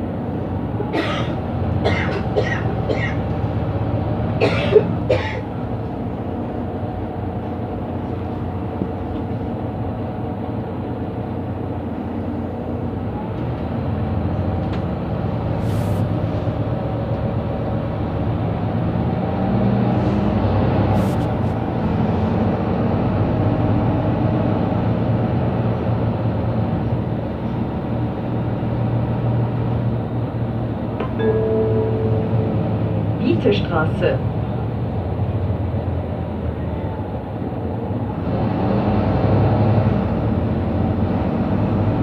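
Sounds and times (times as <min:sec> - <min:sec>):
bus diesel engine running: 0:00.0 - 0:42.0.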